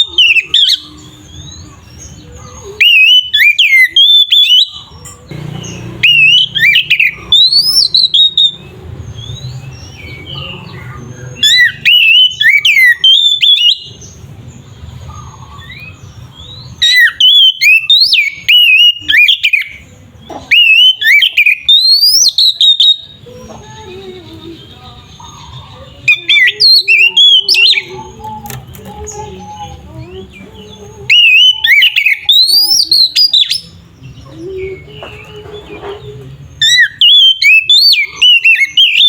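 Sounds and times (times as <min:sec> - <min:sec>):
songbird whistling song: 0:00.0 - 0:39.0.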